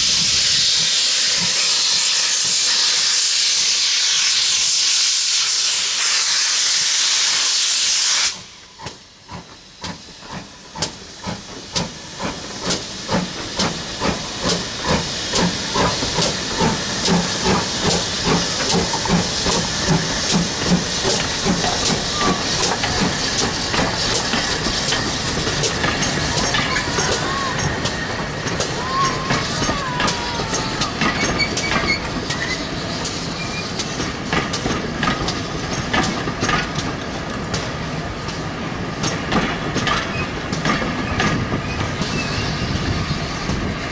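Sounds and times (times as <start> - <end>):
steam hissing: 0.0 - 43.9
steam locomotive chuffing: 0.0 - 43.9.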